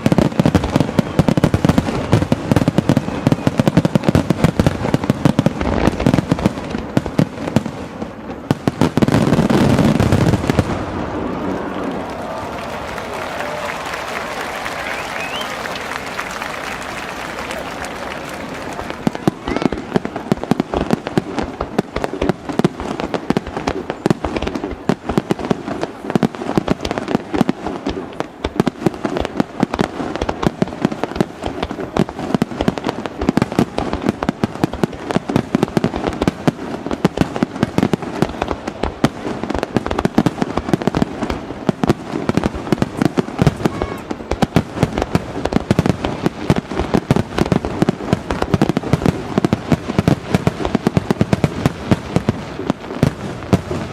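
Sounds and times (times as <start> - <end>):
fireworks booming and crackling: 0.0 - 53.9.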